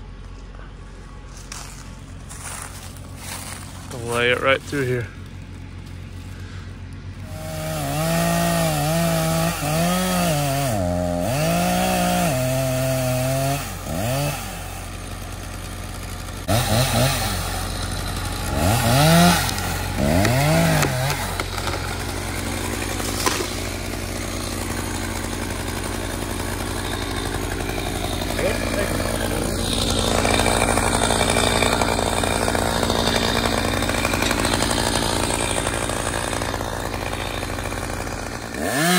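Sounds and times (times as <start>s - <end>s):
diesel tractor engine running: 0.0s - 38.9s
chainsaw cutting wood: 1.3s - 38.9s.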